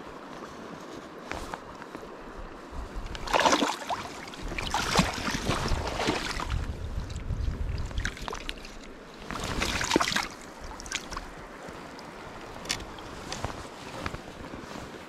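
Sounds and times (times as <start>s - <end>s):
river water splashing: 0.0s - 15.0s
gusty wind on microphone: 2.2s - 3.5s, 4.2s - 15.0s.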